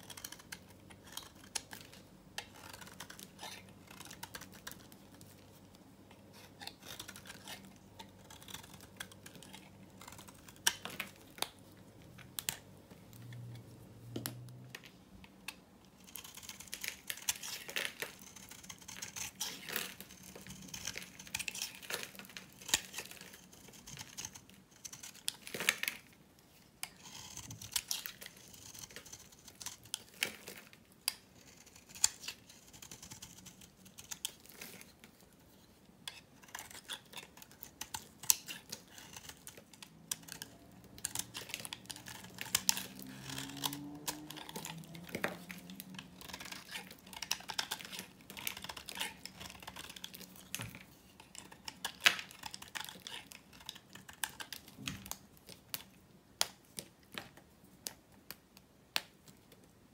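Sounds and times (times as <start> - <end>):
knife shaving dry soap: 0.0 - 12.6, 15.5 - 58.1.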